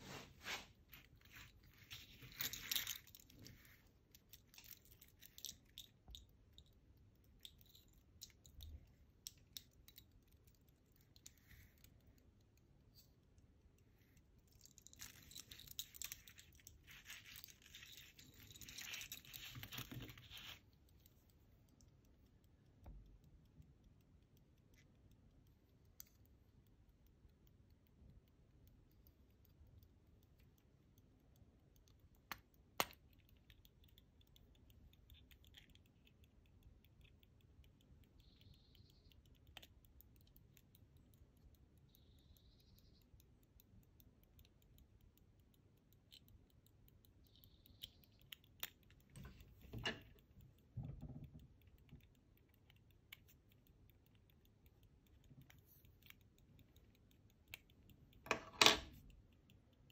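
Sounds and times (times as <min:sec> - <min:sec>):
pocket watch ticking: 0:01.3 - 0:58.3, 0:58.9 - 0:59.9.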